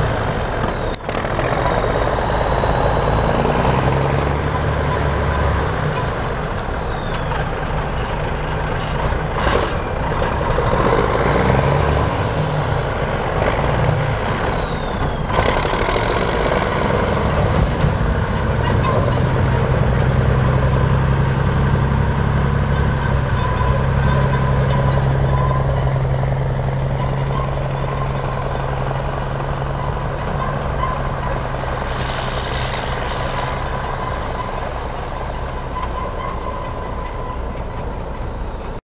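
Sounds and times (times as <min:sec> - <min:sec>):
diesel truck engine droning: 0:00.0 - 0:38.8.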